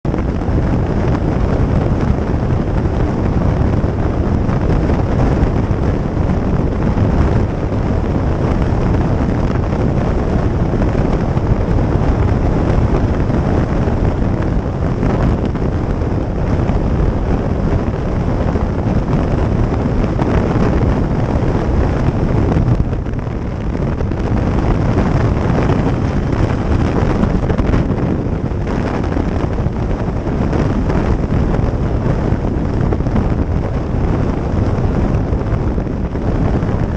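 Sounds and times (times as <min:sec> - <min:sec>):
motorcycle road and running noise: 0:00.0 - 0:36.9
wind rushing over microphone: 0:00.0 - 0:36.9.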